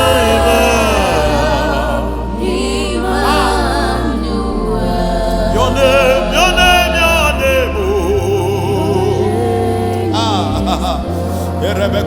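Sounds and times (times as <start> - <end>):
gospel singing: 0.0 - 12.0
sustained bass notes: 0.0 - 12.0.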